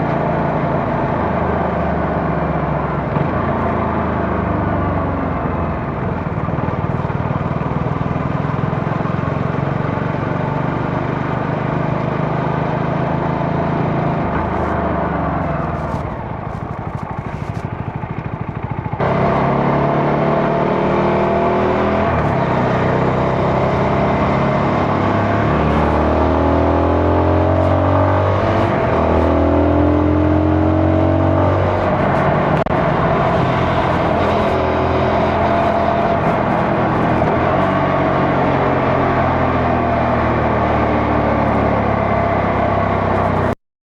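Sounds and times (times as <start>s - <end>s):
motorcycle engine running: 0.0s - 43.6s.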